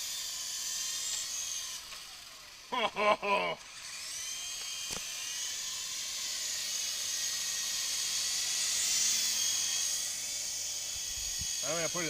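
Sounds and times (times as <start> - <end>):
toy helicopter motor whine: 0.0 - 12.0.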